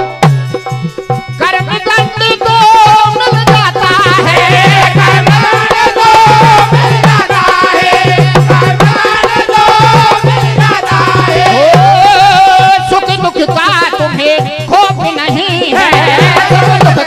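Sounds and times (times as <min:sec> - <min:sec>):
dholak drum beating: 0:00.0 - 0:17.0
harmonium melody: 0:00.0 - 0:17.0.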